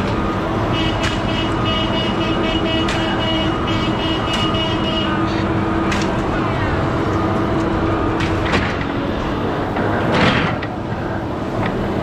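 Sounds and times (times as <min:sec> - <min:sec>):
high whine: 0:00.0 - 0:12.0
truck engine running: 0:00.0 - 0:12.0.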